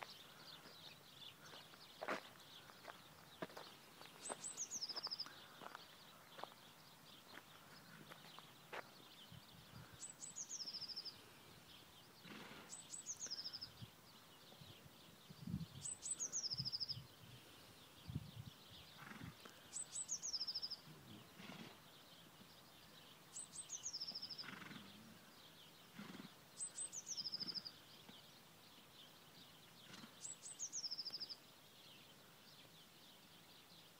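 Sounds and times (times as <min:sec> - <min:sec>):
songbird singing trill: 0:00.0 - 0:33.9.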